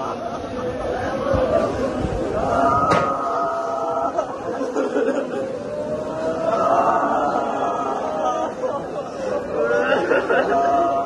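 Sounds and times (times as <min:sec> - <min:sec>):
crowd chanting and crying out: 0:00.0 - 0:11.0.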